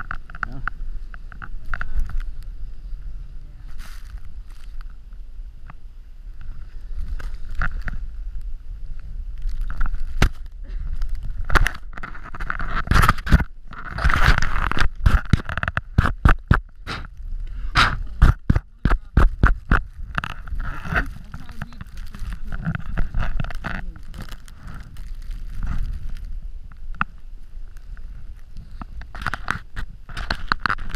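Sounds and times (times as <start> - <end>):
crunching through deep snow: 0.0 - 5.6, 6.2 - 30.9
wind buffeting microphone: 0.0 - 30.9.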